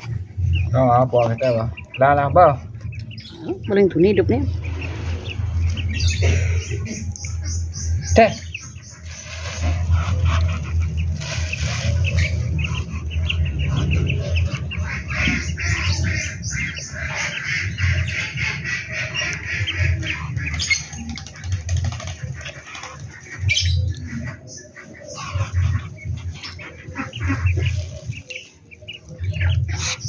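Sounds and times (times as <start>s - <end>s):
ducklings peeping: 0.0s - 30.0s.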